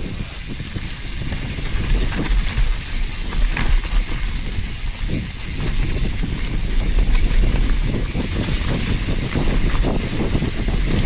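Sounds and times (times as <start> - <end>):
bike rattling over bumps: 0.0 - 11.0
tyres rolling on dirt: 0.0 - 11.0
wind buffeting microphone: 0.0 - 11.0.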